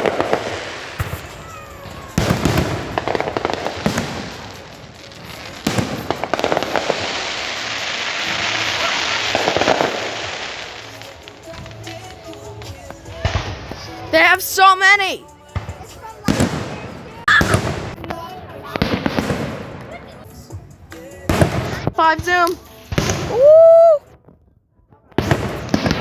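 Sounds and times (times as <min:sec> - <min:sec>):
firework bangs: 0:00.0 - 0:20.0, 0:21.2 - 0:23.6, 0:25.1 - 0:26.0
firework crackling: 0:00.0 - 0:24.0, 0:25.1 - 0:26.0.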